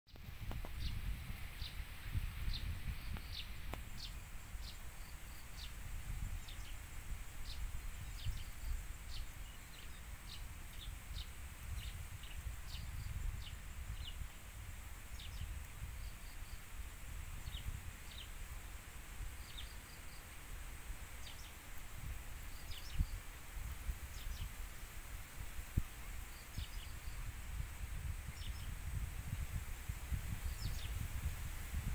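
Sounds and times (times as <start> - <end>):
small birds chirping: 0.1 - 29.5, 30.1 - 31.9
wind rumbling on microphone: 0.1 - 31.9.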